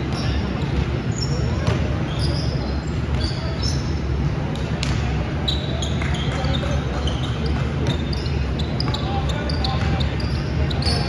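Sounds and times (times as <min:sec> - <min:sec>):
sneakers squeaking on floor: 0:00.0 - 0:04.1, 0:04.8 - 0:11.0
voices: 0:00.0 - 0:11.0.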